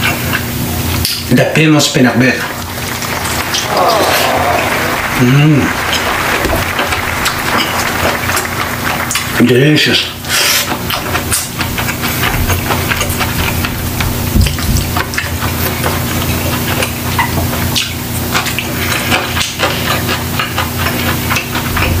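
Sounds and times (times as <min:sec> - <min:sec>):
chewing food with wet smacking: 0:02.5 - 0:22.0.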